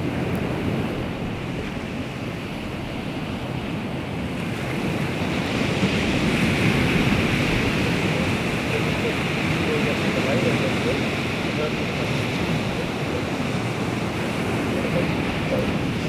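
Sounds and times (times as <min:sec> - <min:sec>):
waves washing onto shore: 0:00.0 - 0:16.0
wind: 0:00.0 - 0:16.0.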